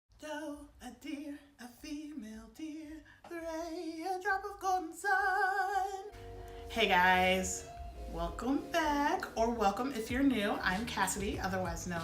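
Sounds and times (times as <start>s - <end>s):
woman singing: 0.2s - 12.0s.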